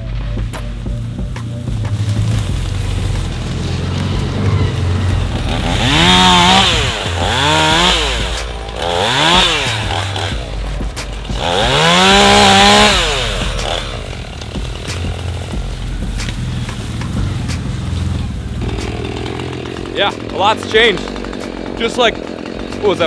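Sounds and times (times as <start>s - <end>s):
chainsaw revving: 0.3s - 23.0s.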